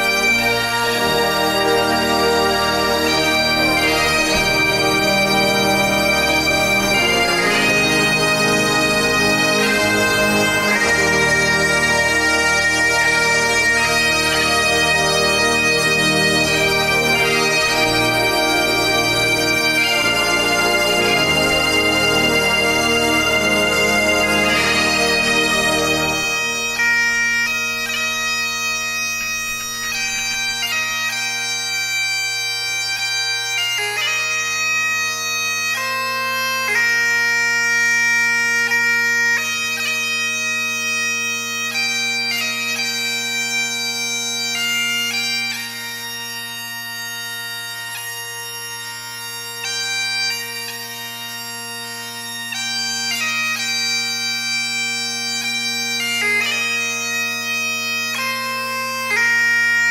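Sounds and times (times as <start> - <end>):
bagpipes playing a melody: 0.0 - 59.9.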